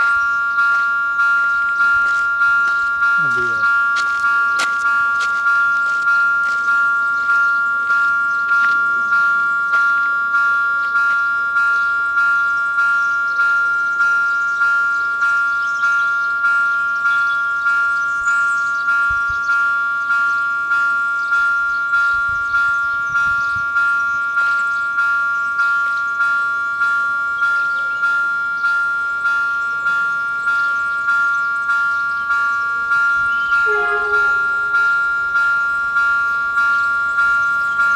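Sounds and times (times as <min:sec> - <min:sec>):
level crossing bells ringing: 0:00.0 - 0:37.9.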